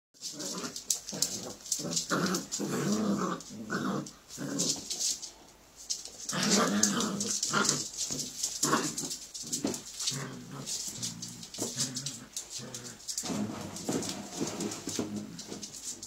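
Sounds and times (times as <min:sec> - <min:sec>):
puppies play-growling and whining: 0:00.2 - 0:05.4, 0:06.1 - 0:16.0.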